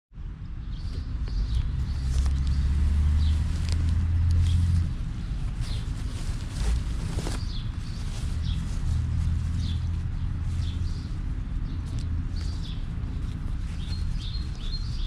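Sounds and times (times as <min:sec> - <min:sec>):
low rumble: 0:00.2 - 0:15.0
birds chirping: 0:00.4 - 0:15.0.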